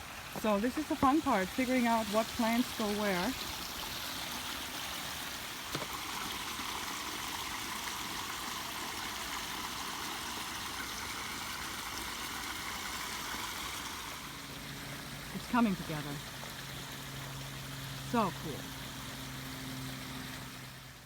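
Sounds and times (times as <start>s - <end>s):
waterfall running over rocks: 0.0s - 21.0s.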